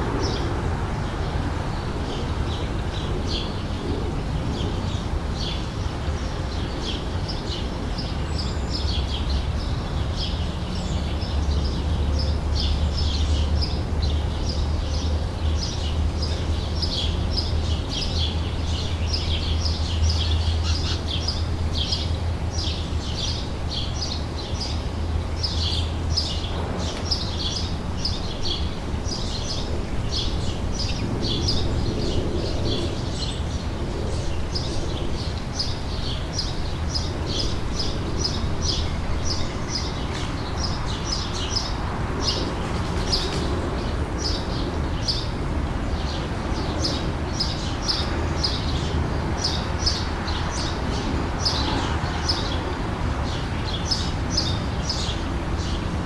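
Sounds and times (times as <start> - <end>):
many birds chirping: 0.0 - 56.0.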